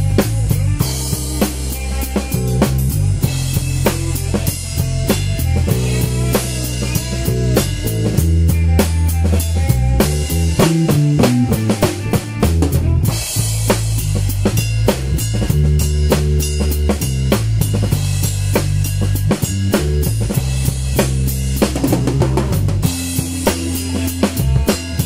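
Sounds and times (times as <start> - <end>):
accompanying music with bass line: 0.0 - 25.0
drum kit groove: 0.0 - 25.0.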